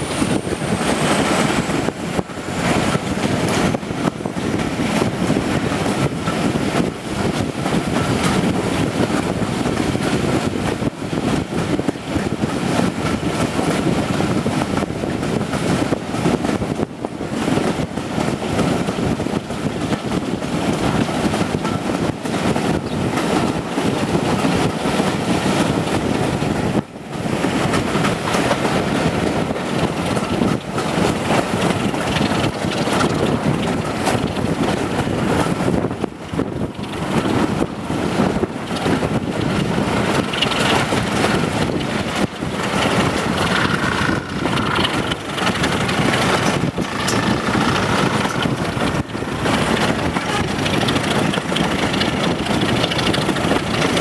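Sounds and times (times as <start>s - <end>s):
diesel engine working: 0.0s - 54.0s
train coach rumbling on track: 0.0s - 54.0s
wind rushing on microphone: 0.0s - 54.0s.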